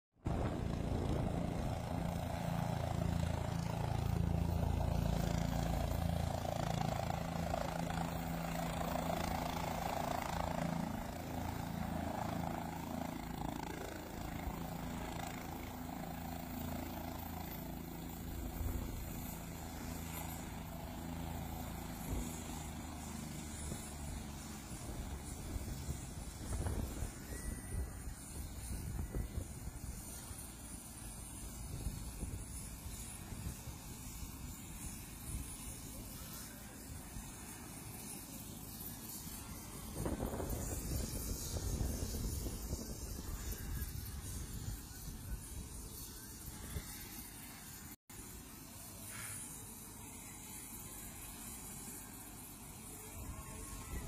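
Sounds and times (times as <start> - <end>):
helicopter rotor and engine: 0.2 - 54.0.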